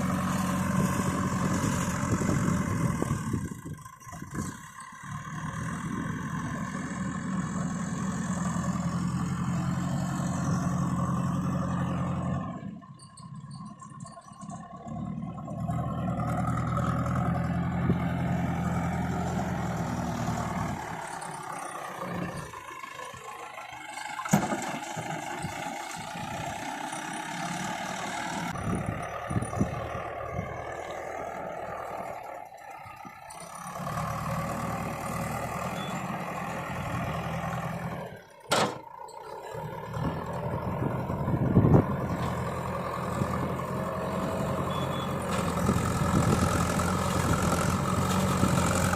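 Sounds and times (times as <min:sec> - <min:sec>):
diesel engine of loading machinery: 0:00.0 - 0:48.9.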